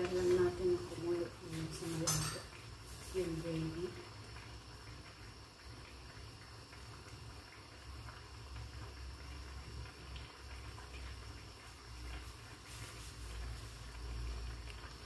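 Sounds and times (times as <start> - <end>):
gravy bubbling in a frying pan: 0.0 - 15.0.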